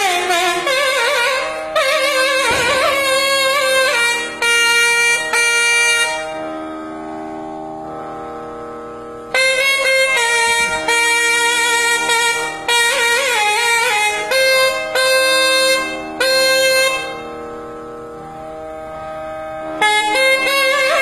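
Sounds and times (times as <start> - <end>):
reedy wind instrument melody: 0.0 - 21.0.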